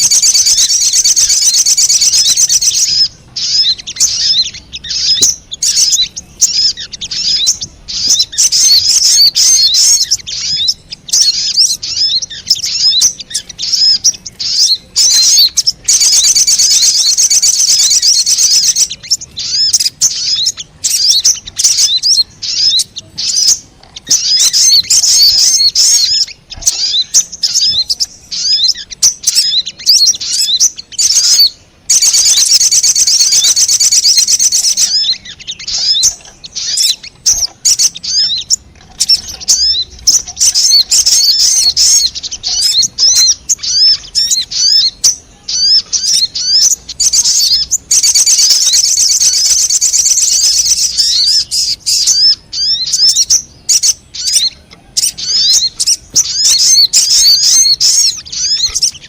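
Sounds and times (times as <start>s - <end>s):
bird high-pitched chattering: 0.0s - 59.0s.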